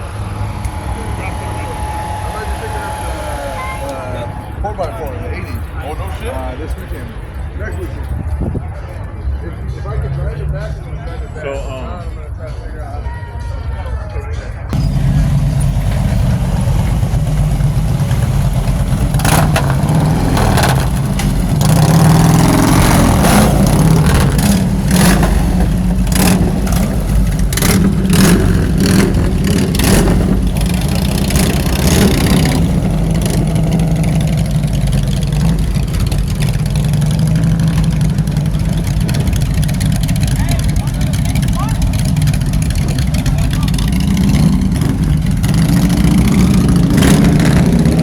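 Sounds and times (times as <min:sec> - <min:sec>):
car engine rumbling: 0:00.0 - 0:08.3, 0:14.8 - 0:48.0.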